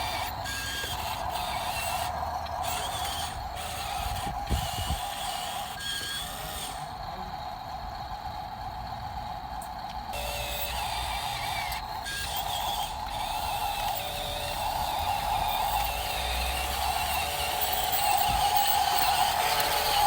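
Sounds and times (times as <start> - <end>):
mechanical whir: 0.0 - 20.0.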